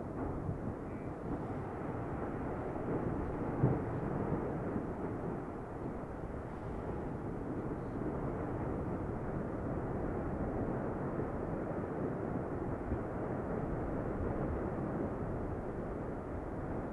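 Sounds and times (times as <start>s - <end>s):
lava fountain deep rumble: 0.0s - 16.9s.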